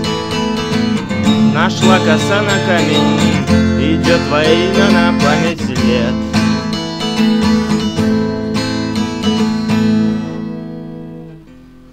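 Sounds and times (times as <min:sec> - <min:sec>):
strummed guitar chords: 0:00.0 - 0:11.9.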